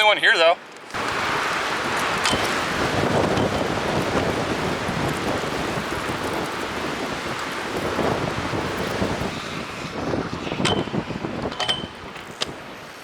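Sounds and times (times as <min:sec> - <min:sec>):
strong wind on microphone: 0:01.0 - 0:13.0.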